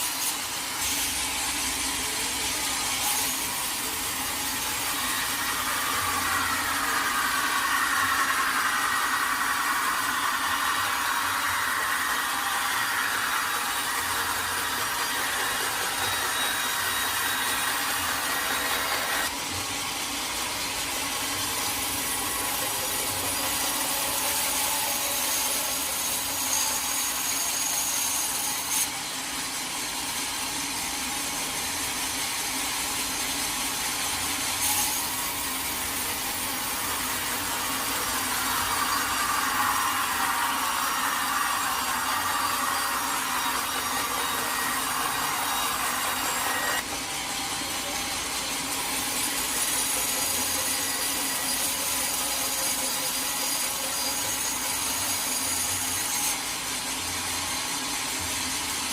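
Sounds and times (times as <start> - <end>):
sawmill blade sawing log: 0.0 - 19.4, 21.0 - 29.0, 33.6 - 46.9, 48.7 - 57.1.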